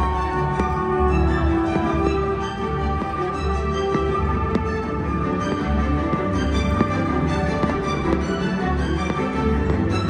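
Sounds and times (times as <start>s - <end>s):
firework bangs: 0.0s - 10.0s
music with sustained chords: 0.0s - 10.0s.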